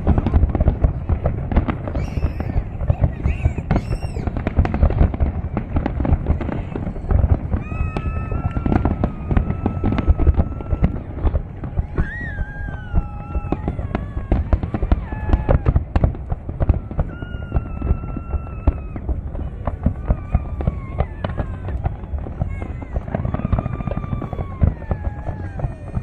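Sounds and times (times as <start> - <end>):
fireworks bangs and crackles: 0.0 - 26.0
fireworks whistling: 0.0 - 26.0.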